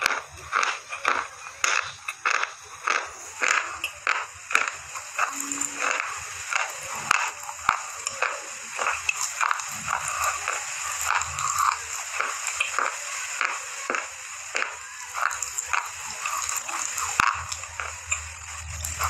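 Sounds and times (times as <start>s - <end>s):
chewing gritty crunches: 0.0s - 19.0s.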